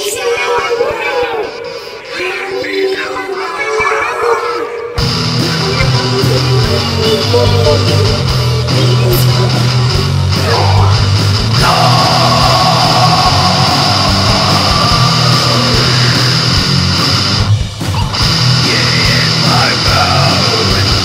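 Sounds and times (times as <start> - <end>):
heavy rock music: 0.0 - 21.0.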